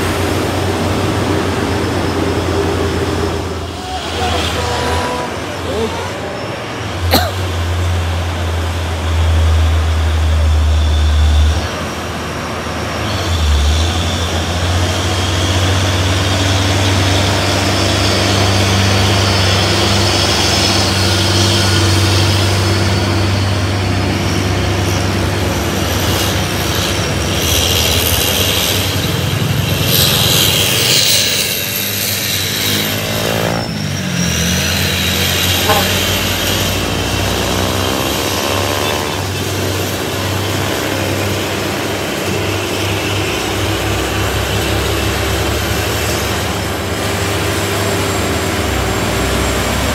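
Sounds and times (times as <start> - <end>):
truck diesel engine under load: 0.0 - 49.9.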